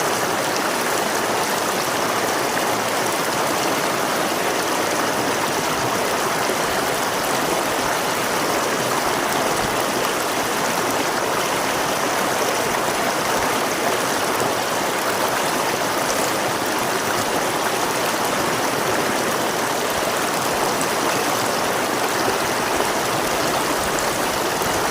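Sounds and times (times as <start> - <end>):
river water flowing over rocks: 0.0 - 24.9.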